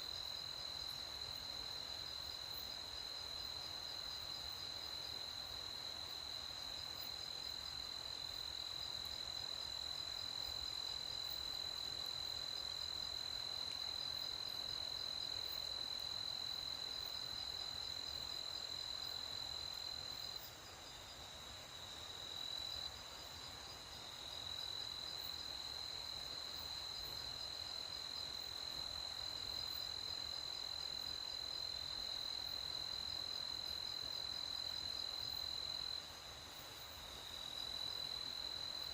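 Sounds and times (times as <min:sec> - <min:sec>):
faint background hiss: 0:00.0 - 0:38.9.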